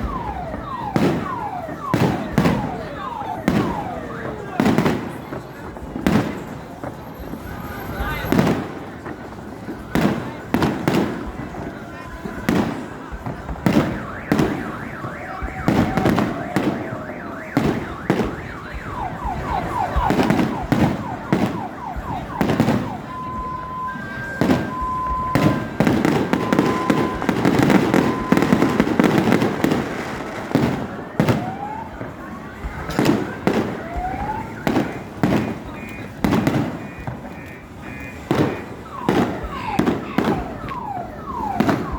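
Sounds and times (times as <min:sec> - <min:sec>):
car alarm: 0:00.0 - 0:05.4, 0:10.0 - 0:41.9
fireworks bursting in sharp bangs: 0:00.0 - 0:41.9
rumble of explosions: 0:00.0 - 0:41.9.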